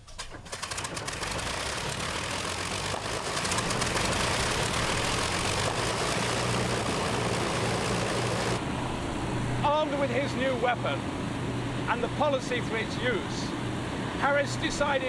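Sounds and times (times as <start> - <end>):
piston aircraft engines running: 0.1 - 15.0.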